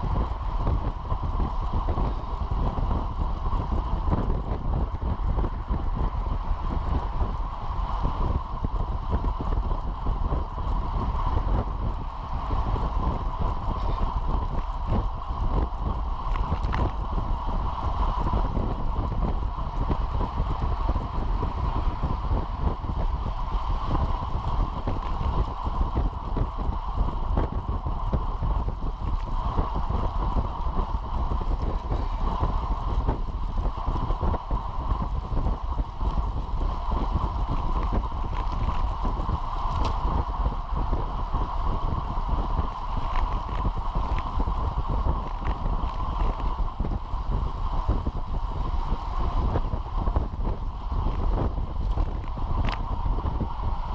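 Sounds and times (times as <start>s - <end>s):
road rumble: 0.0s - 53.9s
wind rush on microphone: 0.0s - 53.9s.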